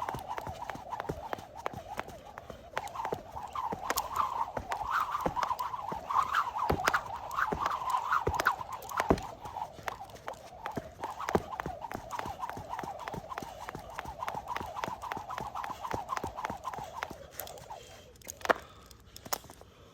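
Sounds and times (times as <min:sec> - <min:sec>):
rope whirring: 0:00.0 - 0:18.6
jump rope slapping the floor: 0:00.0 - 0:19.5.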